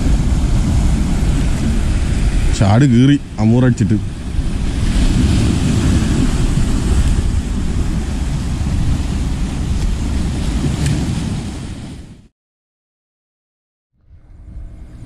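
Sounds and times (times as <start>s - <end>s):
waves washing against rocks: 0.0s - 12.2s
wind buffeting microphone: 0.0s - 12.3s, 14.0s - 15.0s.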